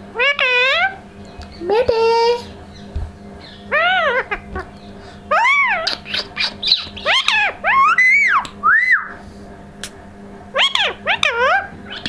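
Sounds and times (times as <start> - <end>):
parakeet high-pitched calls: 0.0 - 1.8, 2.4 - 9.2, 10.5 - 12.0.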